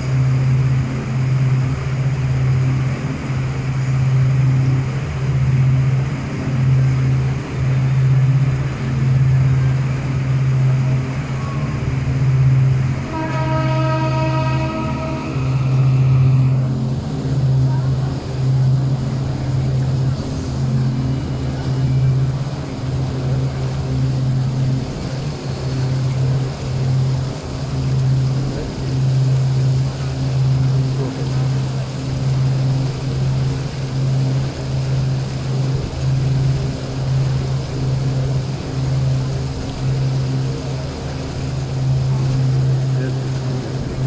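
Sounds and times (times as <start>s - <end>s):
boat engine humming: 0.0s - 44.0s
water noise: 0.0s - 44.0s.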